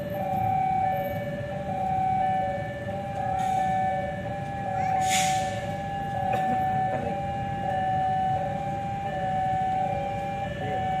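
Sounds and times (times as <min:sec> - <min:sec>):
level crossing two-tone alarm: 0:00.0 - 0:11.0.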